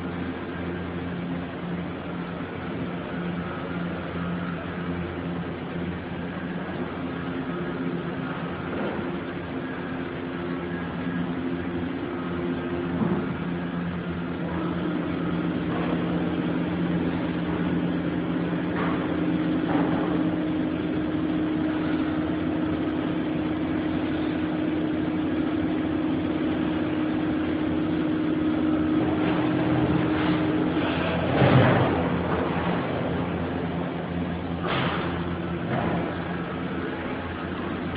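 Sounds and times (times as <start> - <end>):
factory machinery humming: 0.0 - 37.9.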